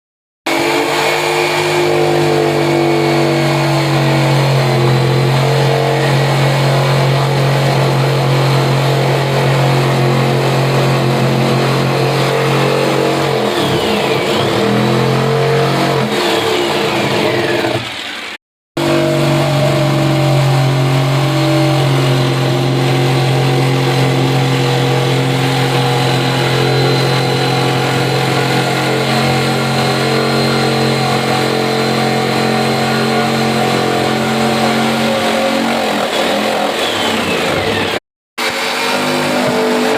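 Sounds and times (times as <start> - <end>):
jigsaw cutting wood: 0.5 - 39.9.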